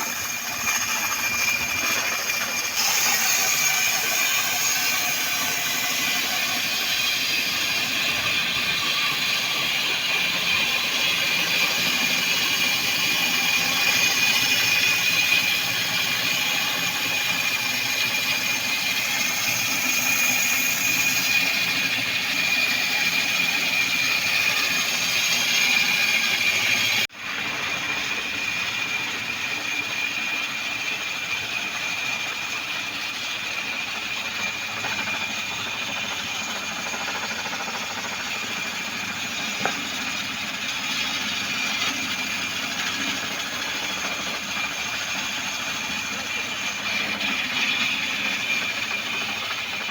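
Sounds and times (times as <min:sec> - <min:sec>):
sawmill machine whining: 0:00.0 - 0:49.9.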